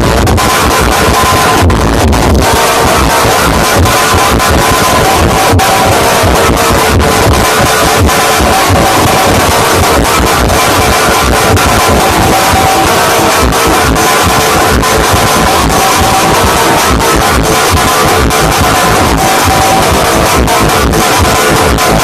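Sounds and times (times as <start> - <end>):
loud guitar music over loudspeakers: 0.0 - 22.0.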